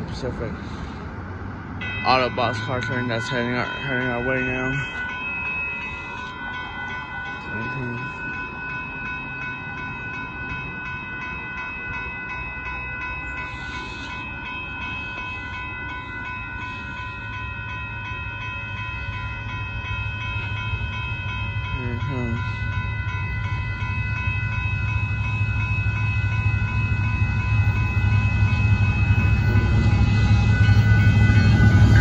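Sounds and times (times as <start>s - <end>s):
freight train rumble: 0.0s - 32.0s
railroad crossing bell ringing: 0.0s - 32.0s.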